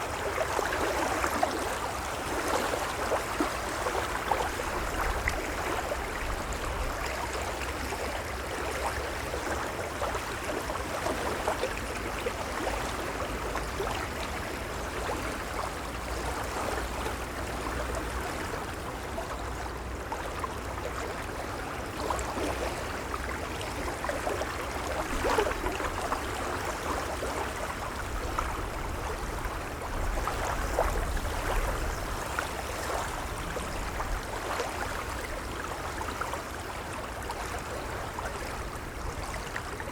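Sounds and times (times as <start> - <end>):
gentle waves lapping: 0.0 - 39.9.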